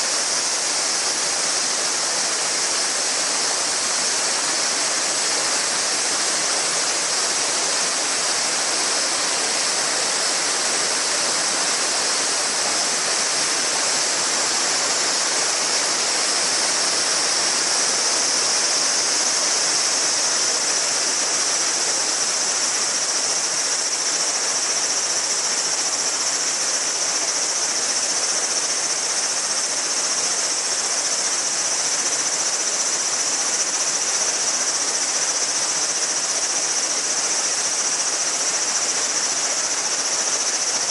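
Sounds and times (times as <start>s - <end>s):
cicadas droning: 0.0s - 40.9s
river babbling over stones: 0.0s - 40.9s.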